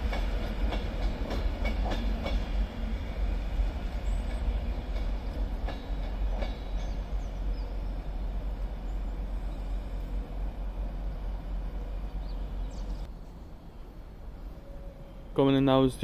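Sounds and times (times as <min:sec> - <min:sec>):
rail clicks: 0:00.0 - 0:13.1
train rumbling on track: 0:00.0 - 0:16.0.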